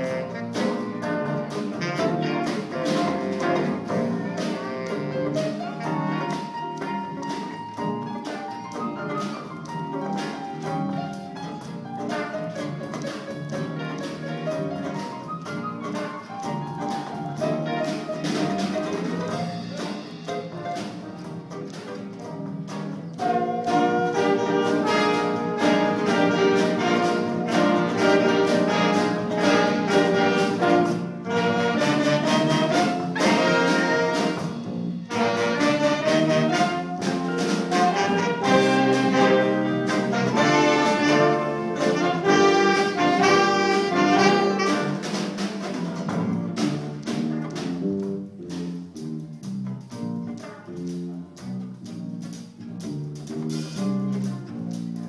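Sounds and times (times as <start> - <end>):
live jazz band playing: 0.0 - 55.0.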